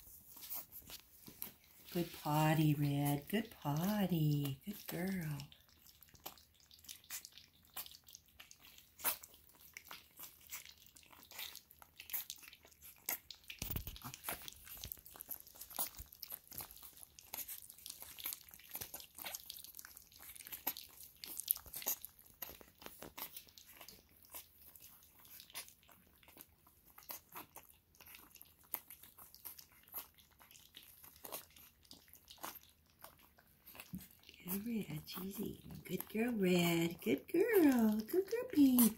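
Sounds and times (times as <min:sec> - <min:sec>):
puppies lapping and slurping: 0:00.0 - 0:38.9.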